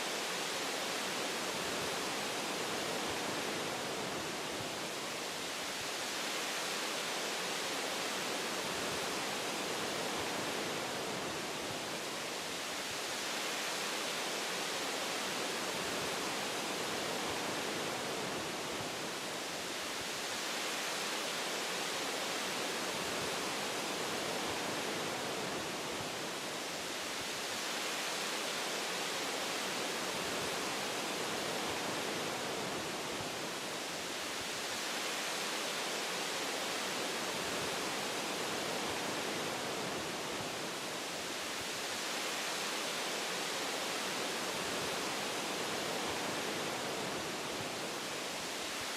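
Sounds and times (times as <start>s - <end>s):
wind blowing through tree branches: 0.0s - 48.9s.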